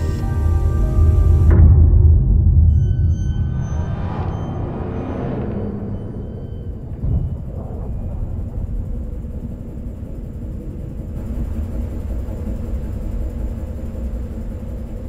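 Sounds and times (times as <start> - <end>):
low rumbling ambience: 0.0 - 15.0.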